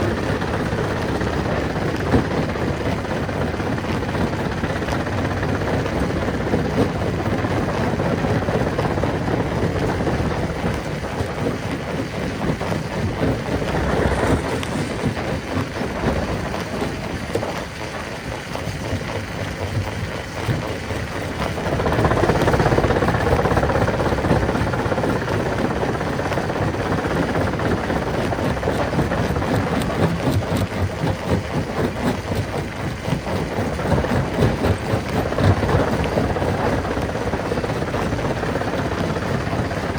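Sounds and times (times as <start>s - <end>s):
rattling and clattering rock: 0.0s - 39.9s
rock crusher rumbling: 0.0s - 39.9s.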